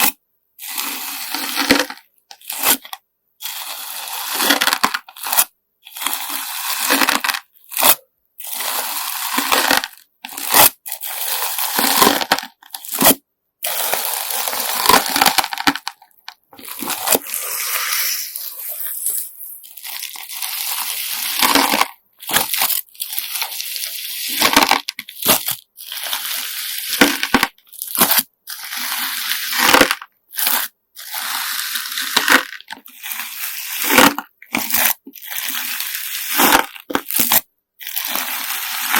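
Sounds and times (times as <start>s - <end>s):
gritty slime crackling: 4.2s - 38.9s.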